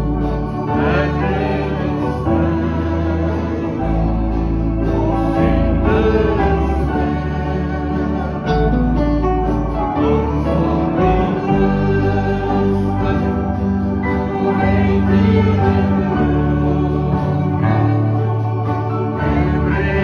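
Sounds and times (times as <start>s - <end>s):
acoustic guitars: 0.0s - 20.0s
electric guitar: 0.0s - 20.0s
piano accordion chords: 0.0s - 20.0s.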